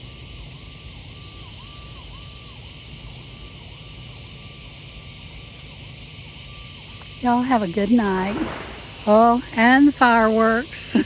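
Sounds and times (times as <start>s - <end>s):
faint wavering siren: 0.0s - 11.0s
night insects chorus: 0.0s - 11.0s.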